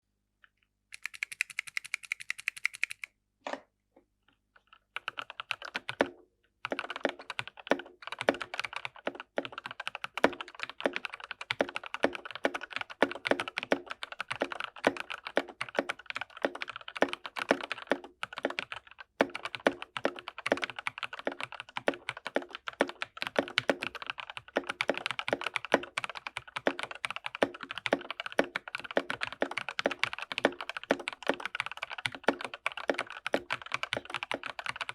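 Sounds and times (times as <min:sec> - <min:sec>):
typing on mechanical keyboard: 0:00.9 - 0:03.1, 0:04.6 - 0:34.9.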